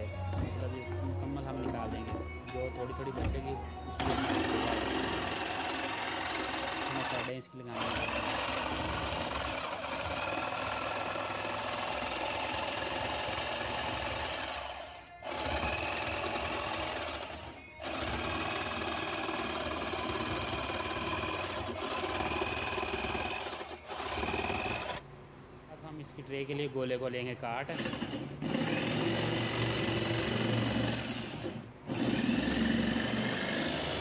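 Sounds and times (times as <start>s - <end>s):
electric jigsaw cutting wood: 4.0s - 25.0s, 27.7s - 34.0s.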